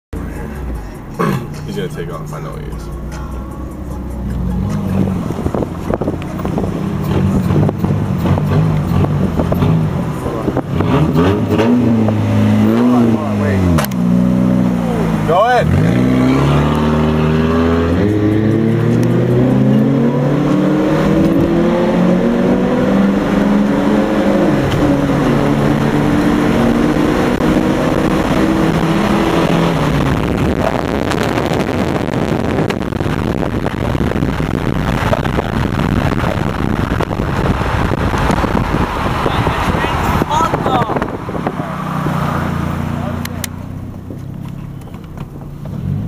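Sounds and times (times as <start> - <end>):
car engine accelerating: 0.1 - 46.0
wind and road noise: 0.1 - 46.0.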